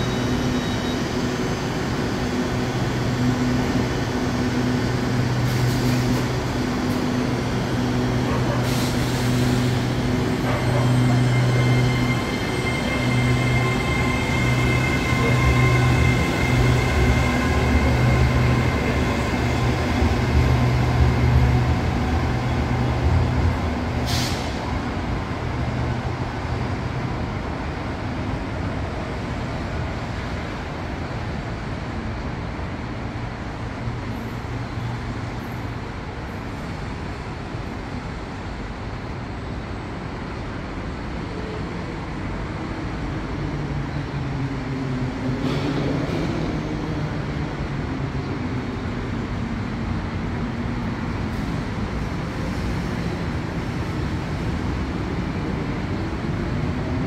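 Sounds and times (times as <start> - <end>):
diesel train engine hum: 0.0 - 57.0.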